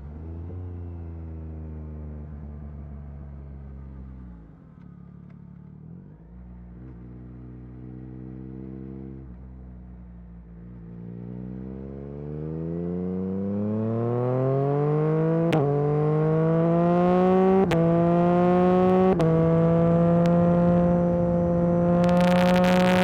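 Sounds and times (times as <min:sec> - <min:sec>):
motorcycle accelerating through gears: 0:00.0 - 0:23.0.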